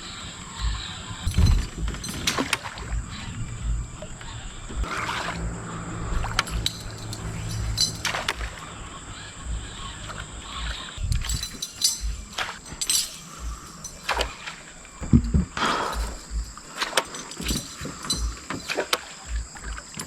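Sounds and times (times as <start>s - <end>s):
gear knocking and clinking: 0.0s - 20.0s
low steady hum: 0.0s - 20.0s.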